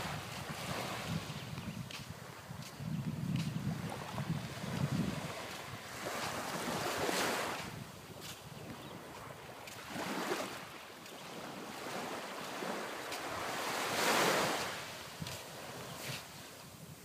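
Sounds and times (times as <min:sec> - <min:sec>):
small waves lapping on sand: 0:00.0 - 0:17.0.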